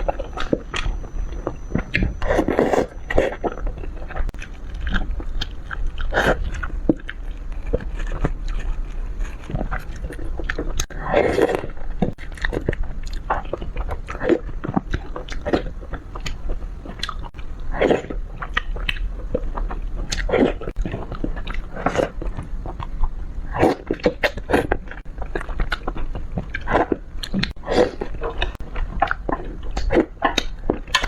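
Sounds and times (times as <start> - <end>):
biting and chewing food: 0.0 - 31.0.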